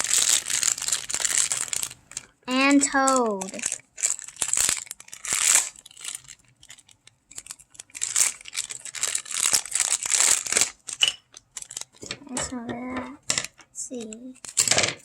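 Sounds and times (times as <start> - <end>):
packaging crinkling and tearing: 0.0 - 12.3, 13.4 - 15.0.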